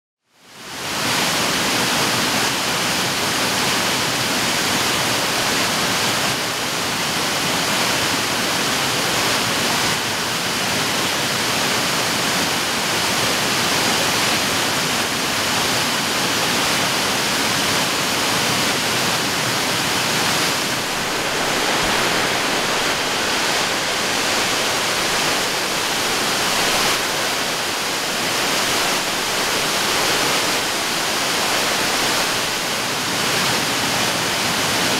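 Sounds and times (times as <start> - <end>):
waterfall rushing: 0.6 - 34.9.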